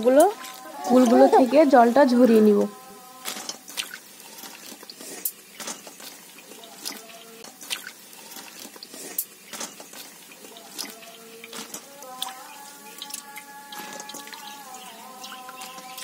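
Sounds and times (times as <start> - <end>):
water dripping: 0.0 - 16.0.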